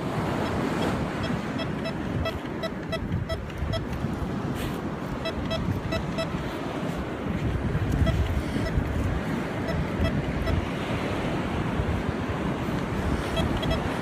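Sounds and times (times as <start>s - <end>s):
metal detector beeping: 0.2s - 11.2s, 12.6s - 14.0s.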